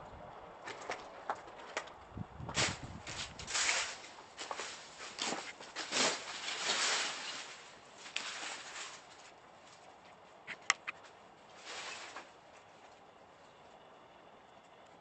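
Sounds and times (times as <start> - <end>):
footsteps crunching over debris: 0.6 - 13.9.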